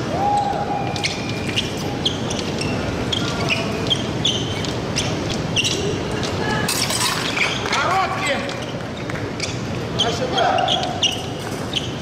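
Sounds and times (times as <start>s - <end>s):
shoes squeaking and tapping: 0.0s - 12.0s.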